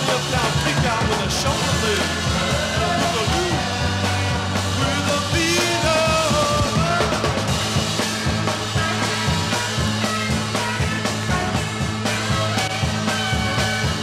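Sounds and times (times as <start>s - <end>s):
rock band playing: 0.0s - 14.0s
sliding lead guitar line: 0.0s - 14.0s.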